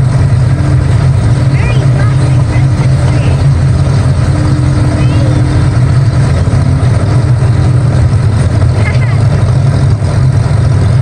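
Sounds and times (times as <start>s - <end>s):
faint steady hum: 0.0s - 10.9s
miniature train rumbling: 0.0s - 11.0s.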